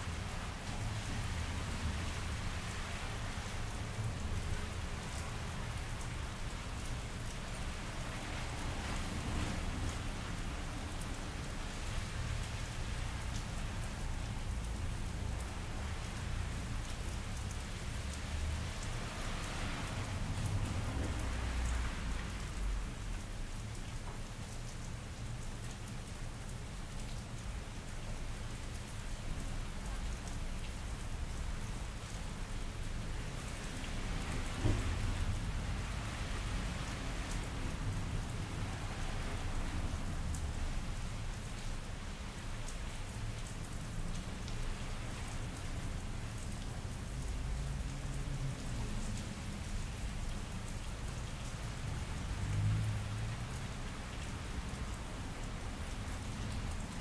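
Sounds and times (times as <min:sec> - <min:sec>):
rain on wet pavement: 0:00.0 - 0:57.0.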